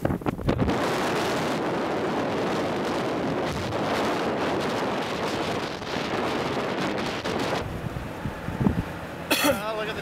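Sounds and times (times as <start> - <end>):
strong wind on microphone: 0.0 - 9.1.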